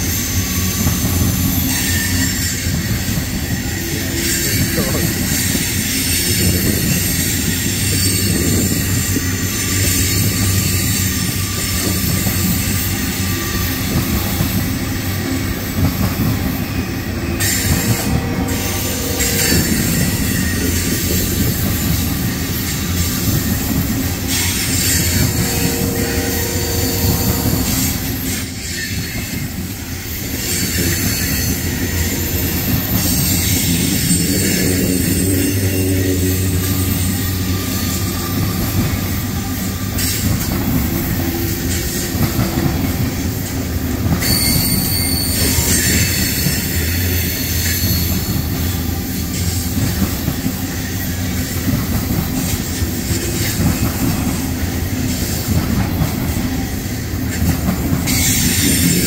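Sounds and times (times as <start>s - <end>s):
freight train wheels rumbling: 0.0s - 59.0s
wheels squealing: 0.0s - 59.0s.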